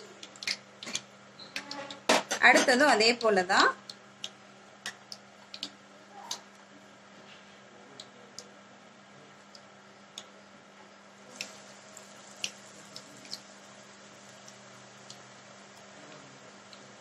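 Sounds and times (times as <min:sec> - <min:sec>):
hot oil crackling and popping: 0:00.0 - 0:06.7, 0:09.4 - 0:17.0
low steady hum: 0:00.0 - 0:17.0.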